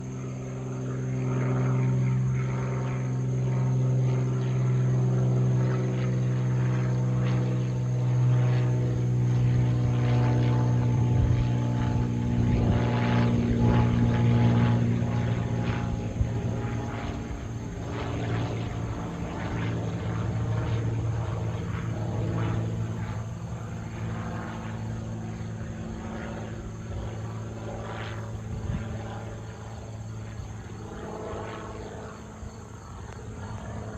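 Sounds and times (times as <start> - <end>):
propeller plane flying past: 0.0 - 33.9.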